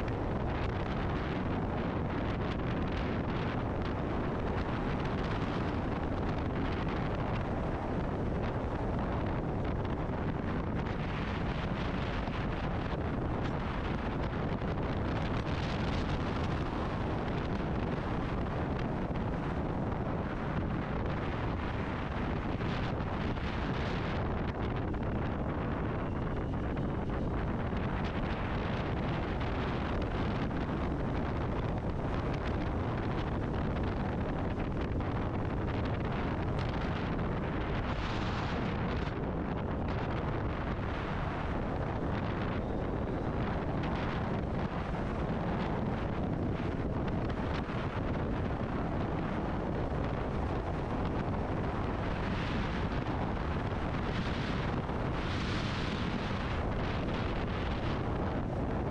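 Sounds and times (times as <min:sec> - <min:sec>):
road noise: 0:00.0 - 0:58.9
wind buffeting microphone: 0:00.0 - 0:58.9.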